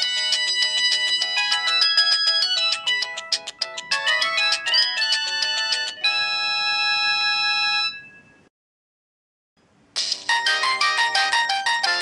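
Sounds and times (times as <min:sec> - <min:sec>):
phone polyphonic ringtone: 0:00.0 - 0:08.4, 0:10.3 - 0:12.0.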